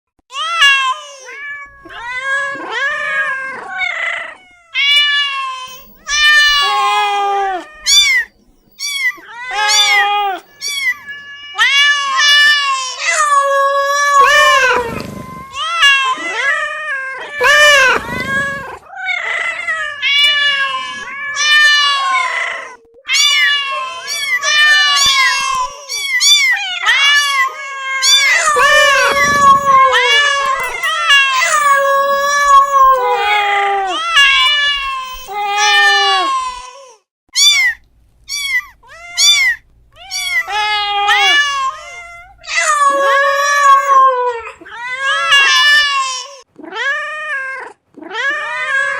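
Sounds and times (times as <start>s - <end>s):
cats meowing: 0.3s - 36.7s, 37.4s - 48.9s.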